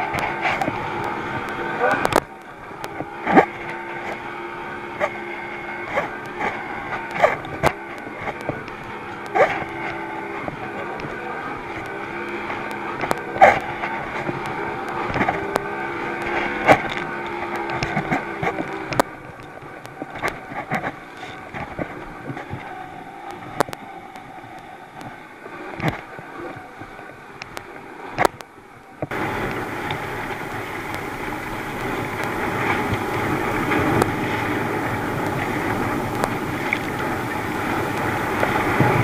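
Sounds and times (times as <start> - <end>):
hull slapping water: 0.0 - 39.0
outboard motor running: 0.0 - 39.0
rushing wind and water: 0.0 - 39.0.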